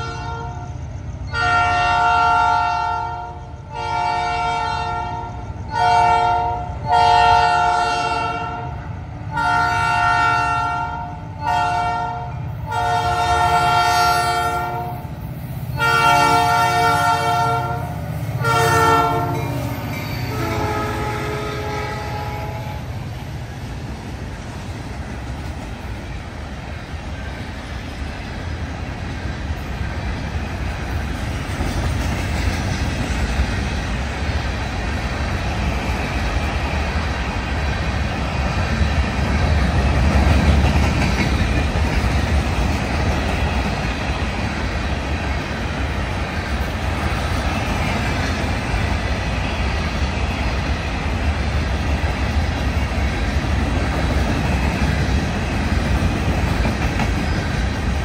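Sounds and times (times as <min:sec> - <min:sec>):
freight car wheels rumbling on rail: 0:03.2 - 0:58.0.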